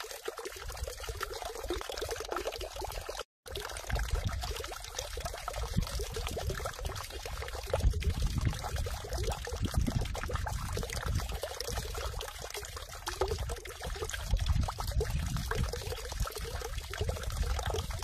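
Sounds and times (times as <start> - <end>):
water splashing into stone basin: 0.0 - 18.0.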